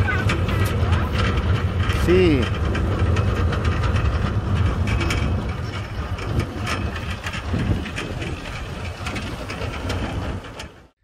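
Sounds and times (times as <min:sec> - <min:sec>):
wind on microphone: 0:00.0 - 0:10.8
cable ride rumbling: 0:00.0 - 0:11.0.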